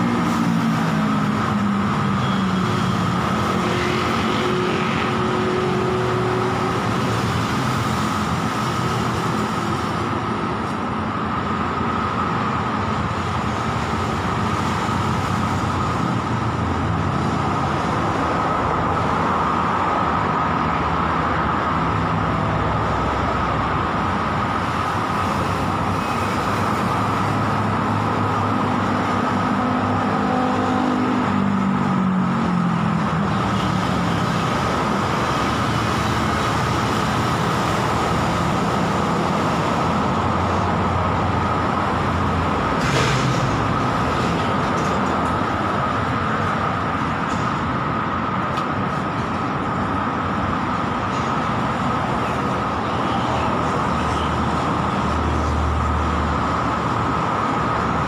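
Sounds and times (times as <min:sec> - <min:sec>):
highway traffic: 0:00.0 - 0:58.0.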